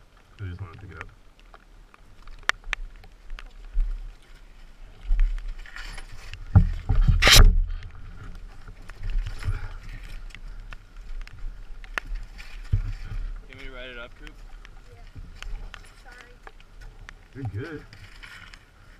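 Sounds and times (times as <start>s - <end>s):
bike knocking and scraping on rocks: 0.4s - 18.9s.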